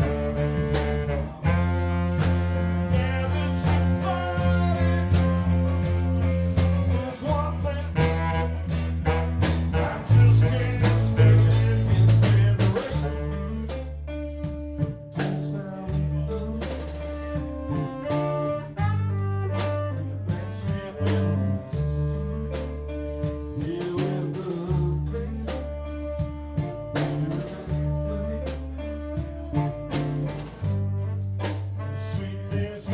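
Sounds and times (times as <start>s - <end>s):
bass guitar low notes: 0.0s - 32.9s
drum kit beat: 0.0s - 32.9s
live band playing blues: 0.0s - 32.9s.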